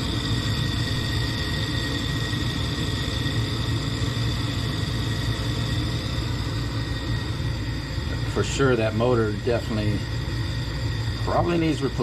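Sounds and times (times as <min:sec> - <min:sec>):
constant high whine: 0:00.0 - 0:12.0
furnace motors rumbling hum: 0:00.0 - 0:12.0.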